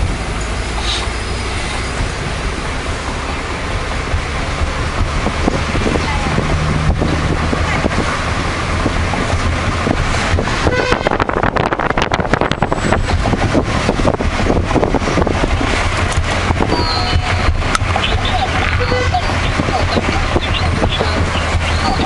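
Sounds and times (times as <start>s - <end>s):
engine and road rumble: 0.0s - 22.0s
wind rush: 0.0s - 22.0s.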